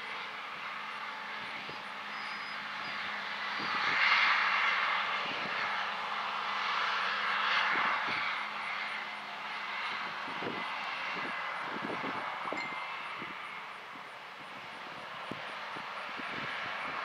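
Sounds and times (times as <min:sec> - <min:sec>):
machinery engine drone: 0:00.0 - 0:17.0.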